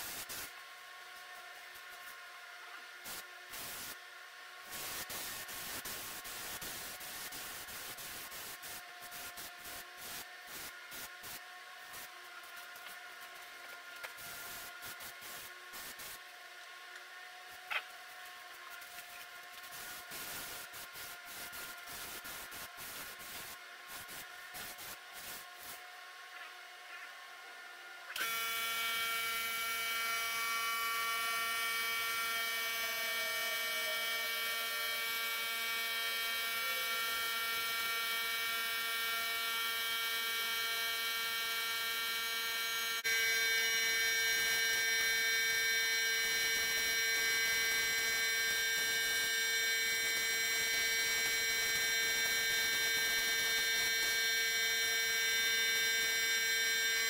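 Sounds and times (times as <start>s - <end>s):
electric motor humming with whine: 2.8s - 57.0s.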